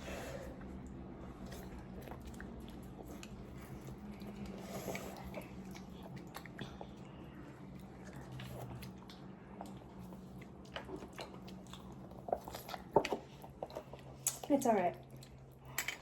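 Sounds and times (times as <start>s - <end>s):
chewing noodles: 0.6s - 16.0s.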